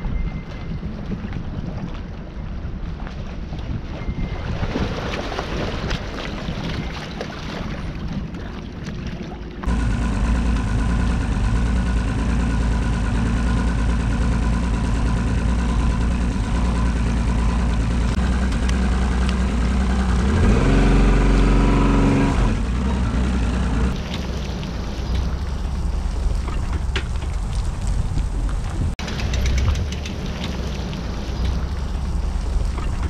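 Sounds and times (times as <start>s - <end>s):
boat outboard motor running: 5.2s - 33.0s.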